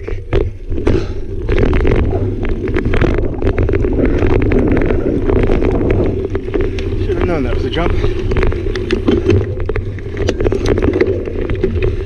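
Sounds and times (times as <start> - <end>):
bike clicks and rattles: 0.0 - 12.0
wind rumble on microphone: 0.0 - 12.0.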